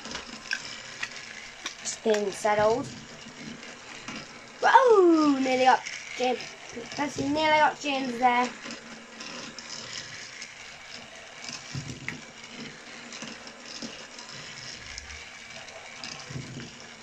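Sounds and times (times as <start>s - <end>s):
toy train motor running: 0.0s - 17.0s
wheels rolling on plastic track: 0.0s - 17.0s.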